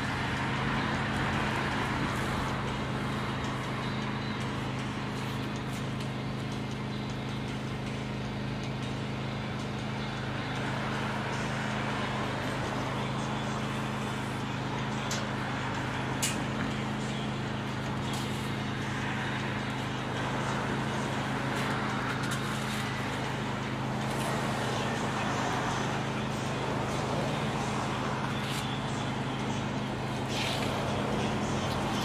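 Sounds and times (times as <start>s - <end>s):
low mechanical hum: 0.0s - 32.0s
traffic noise: 0.0s - 32.0s.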